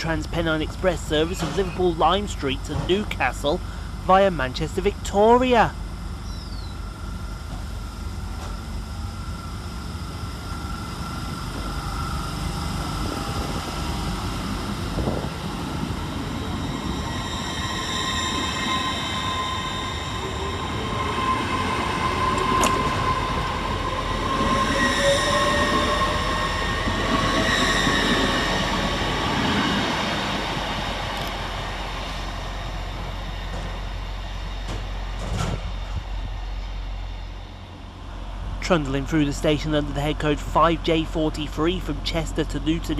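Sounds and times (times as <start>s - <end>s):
train accelerating with whine: 0.0s - 42.9s.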